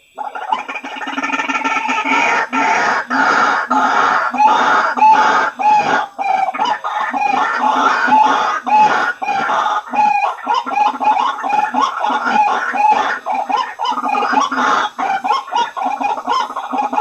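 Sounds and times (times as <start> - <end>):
harsh repeated bird calls: 0.0 - 17.0.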